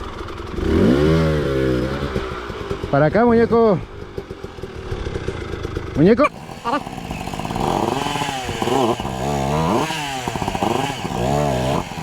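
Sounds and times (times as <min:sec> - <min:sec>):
dirt bike engine revving: 0:00.5 - 0:02.9, 0:04.2 - 0:12.0.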